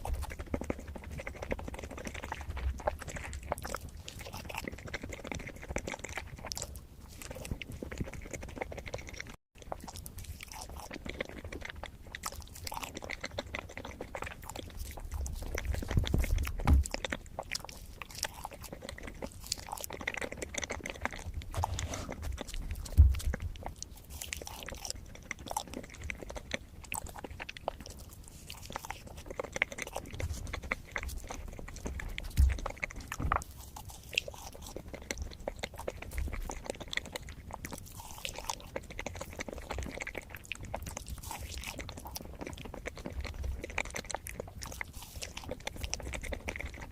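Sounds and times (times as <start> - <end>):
chewing with wet mouth clicks: 0.0 - 46.9.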